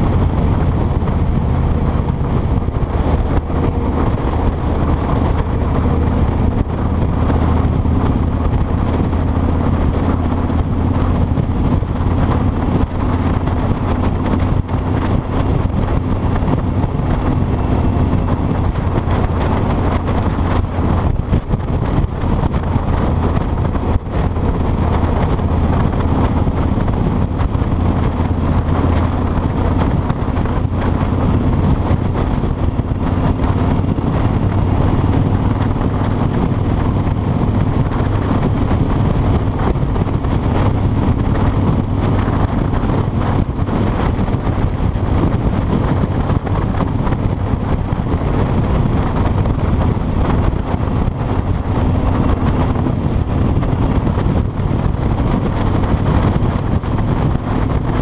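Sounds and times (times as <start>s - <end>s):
motorcycle engine cruising: 0.0s - 58.0s
wind on microphone: 0.0s - 58.0s.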